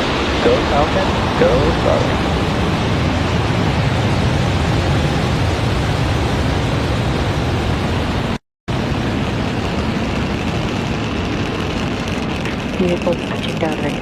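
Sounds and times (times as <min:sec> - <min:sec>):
rocket engines rumbling: 0:00.0 - 0:14.0.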